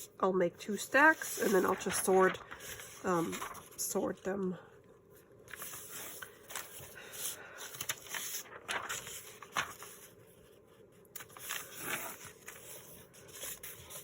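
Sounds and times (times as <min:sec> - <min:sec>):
paper rustling: 0:00.7 - 0:04.2, 0:05.1 - 0:14.0.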